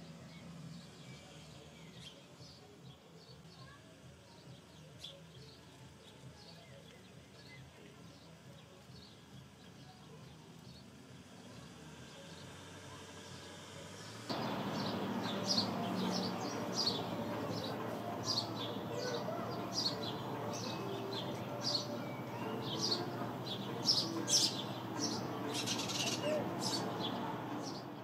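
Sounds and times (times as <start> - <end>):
sparrows chirping: 0.0 - 28.0.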